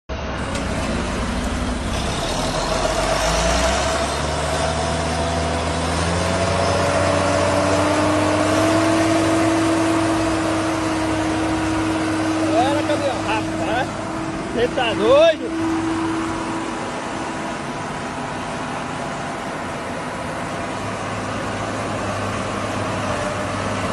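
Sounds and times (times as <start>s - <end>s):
tractor engine working hard: 0.1s - 23.9s.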